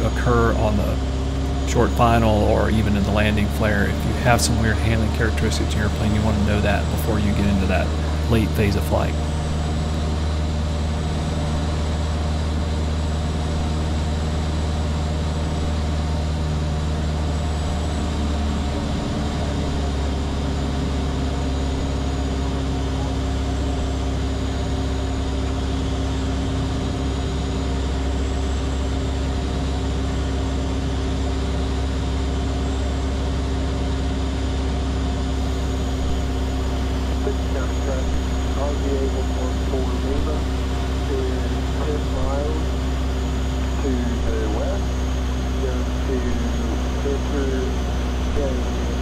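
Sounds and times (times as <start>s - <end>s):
propeller plane engine droning: 0.0s - 49.0s.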